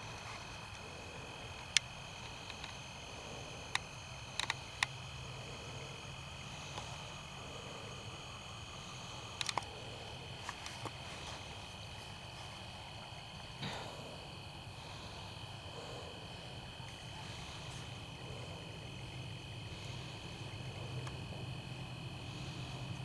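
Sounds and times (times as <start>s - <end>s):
low hum and hiss: 0.0s - 23.0s.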